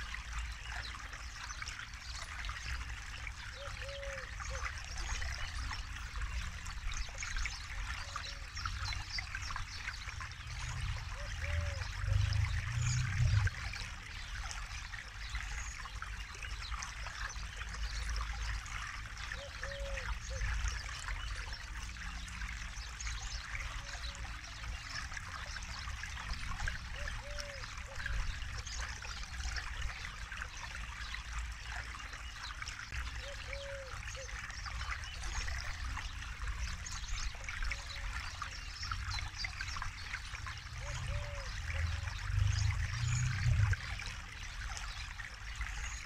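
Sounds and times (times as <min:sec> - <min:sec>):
low water gurgles: 0:00.0 - 0:46.0
low water rumble: 0:00.0 - 0:46.0
river babbling and trickling: 0:00.0 - 0:46.0.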